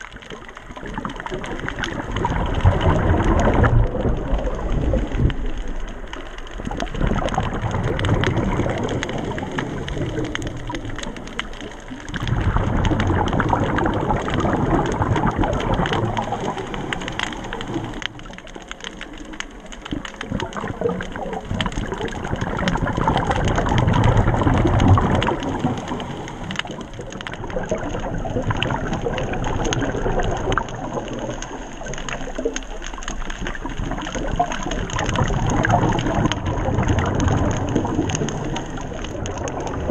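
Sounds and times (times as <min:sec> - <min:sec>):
rushing water underwater: 0:00.0 - 0:39.9
underwater crackle of tiny clicks: 0:00.0 - 0:39.9.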